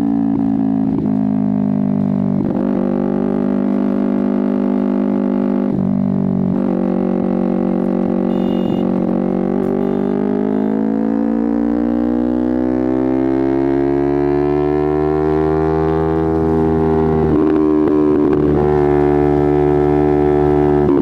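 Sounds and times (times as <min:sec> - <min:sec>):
motorcycle engine droning: 0:00.0 - 0:21.0.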